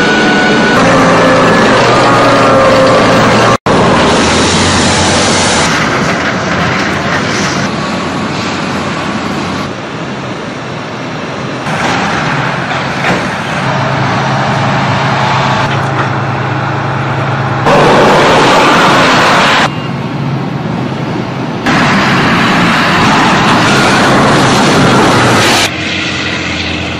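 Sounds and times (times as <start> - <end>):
tracked military vehicle engines: 0.0 - 26.9.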